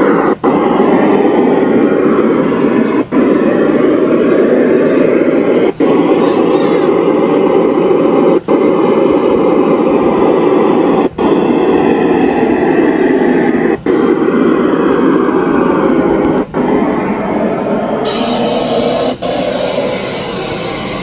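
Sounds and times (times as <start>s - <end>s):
distorted sound system din: 0.0s - 21.0s.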